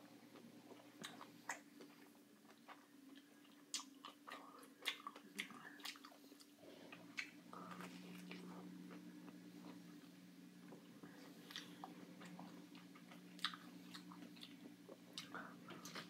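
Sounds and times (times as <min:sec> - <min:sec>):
faint steady hum: 0:00.0 - 0:16.0
person chewing pineapple: 0:00.3 - 0:16.0.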